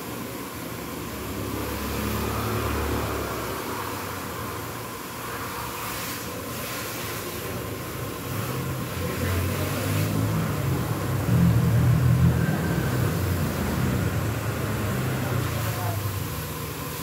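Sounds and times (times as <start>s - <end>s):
pressure washer motor hum: 0.0s - 17.0s
water spray hissing: 0.8s - 17.0s.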